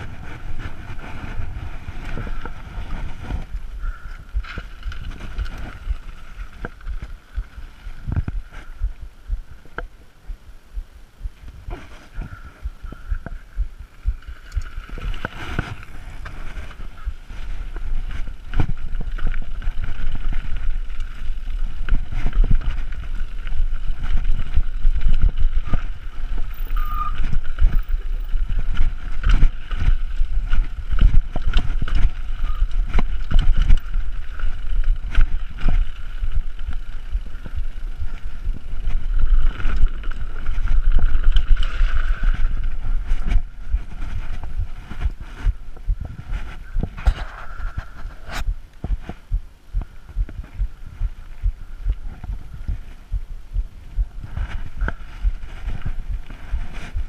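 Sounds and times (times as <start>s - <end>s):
bike rattling and knocking: 0.0s - 57.0s
wind buffeting microphone: 0.0s - 57.0s.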